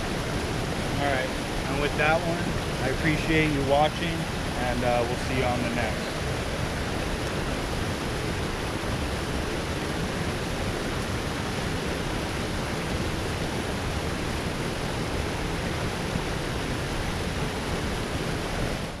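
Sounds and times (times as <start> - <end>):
water rushing down spillway: 0.0 - 19.0.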